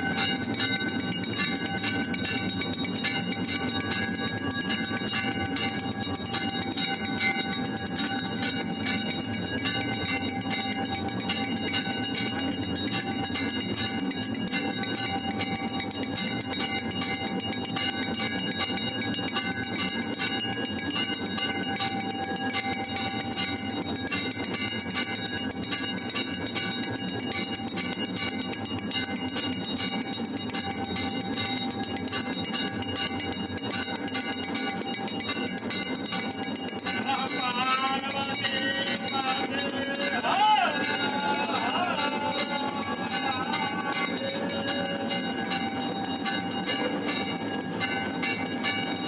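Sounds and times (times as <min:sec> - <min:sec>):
temple bells ringing: 0:00.0 - 0:49.0.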